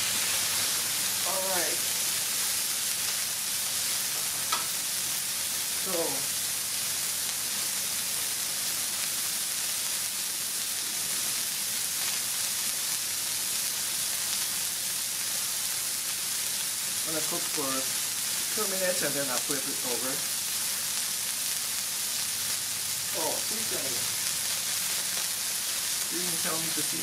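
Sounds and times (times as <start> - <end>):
burgers sizzling on a griddle: 0.0 - 27.0.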